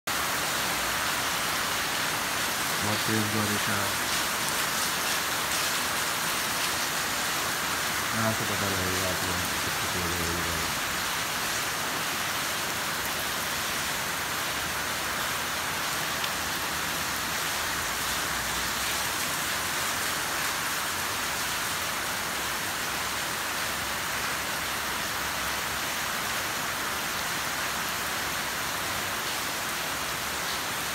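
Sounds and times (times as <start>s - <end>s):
heavy rain on roofs and pavement: 0.0s - 30.9s.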